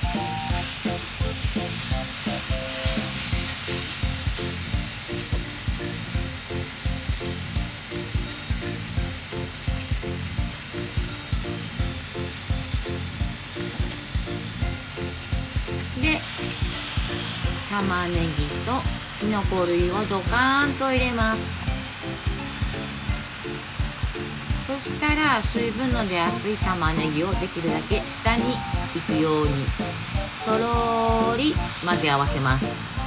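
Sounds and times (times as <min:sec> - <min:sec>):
background music with steady beat: 0:00.0 - 0:33.0
chicken sizzling in hot oil: 0:00.0 - 0:33.0
tongs turning food in pan: 0:00.0 - 0:33.0.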